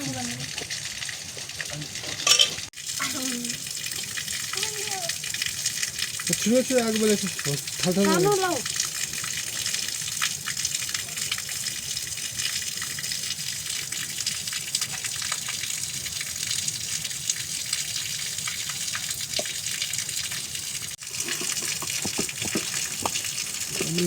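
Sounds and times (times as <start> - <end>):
gushing water: 0.0 - 24.0.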